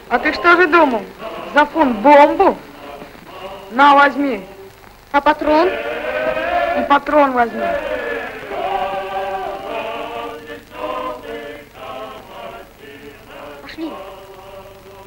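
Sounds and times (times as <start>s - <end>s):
men's choir singing: 0.0s - 4.8s, 5.4s - 15.0s.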